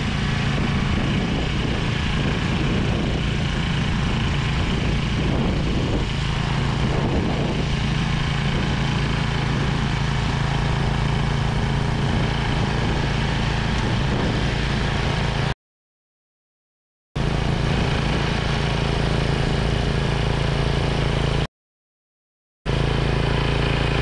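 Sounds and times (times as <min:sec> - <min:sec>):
tiller engine running: 0:00.0 - 0:15.6, 0:17.2 - 0:21.5, 0:22.7 - 0:24.0.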